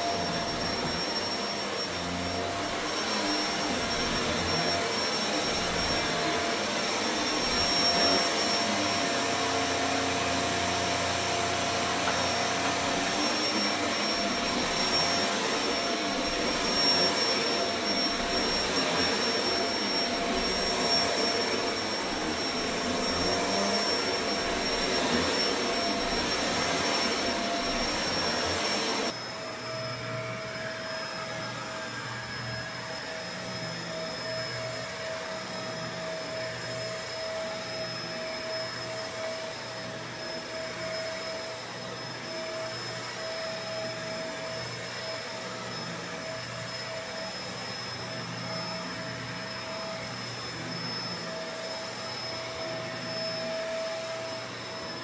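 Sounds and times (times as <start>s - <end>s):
vacuum cleaner running on a rug: 0.0s - 55.0s.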